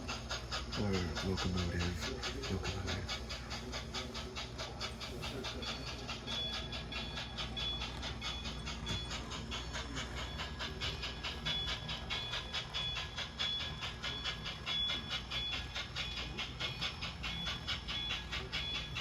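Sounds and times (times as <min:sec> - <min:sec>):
model locomotive running: 0:00.0 - 0:19.0.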